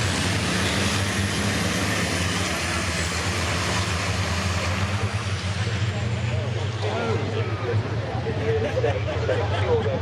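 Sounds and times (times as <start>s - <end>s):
diesel truck engines droning: 0.0s - 10.0s.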